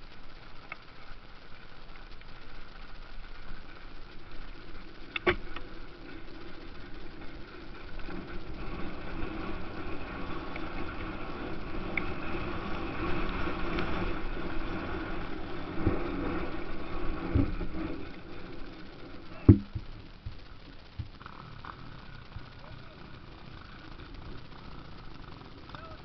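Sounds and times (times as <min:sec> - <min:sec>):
motocross bike engines running: 0:00.0 - 0:26.0.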